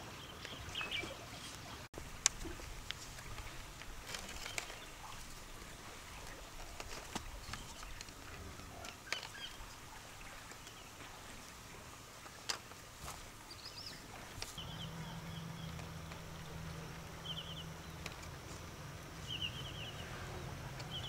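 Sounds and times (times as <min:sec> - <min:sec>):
small birds chirping: 0:00.0 - 0:11.6, 0:13.3 - 0:21.0
low steady hum: 0:00.0 - 0:21.0.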